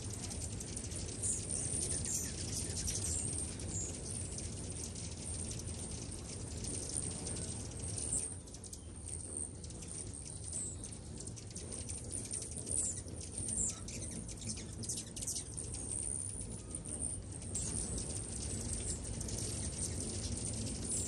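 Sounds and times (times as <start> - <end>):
hummingbirds chirping: 0.0 - 21.0
steady low rumble: 0.0 - 21.0.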